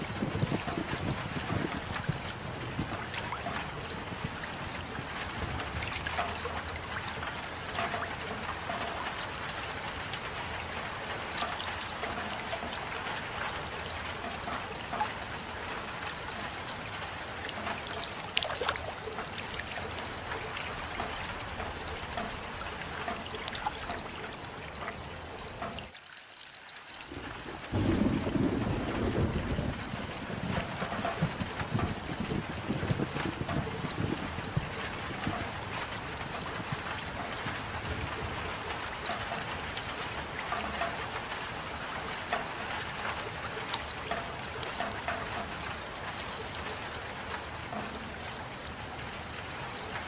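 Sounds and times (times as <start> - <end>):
rain drops ticking: 0.0 - 50.0.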